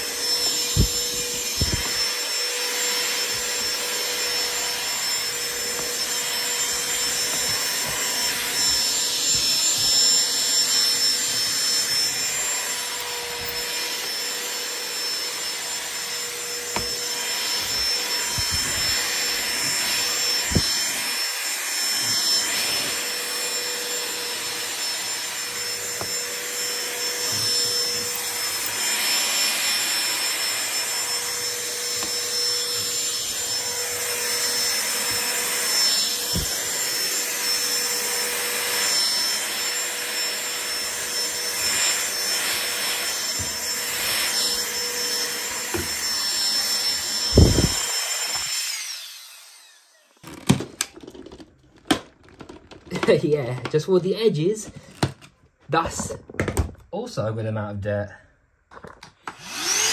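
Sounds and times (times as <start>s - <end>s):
handheld vacuum running: 0.0s - 56.7s, 59.0s - 59.9s.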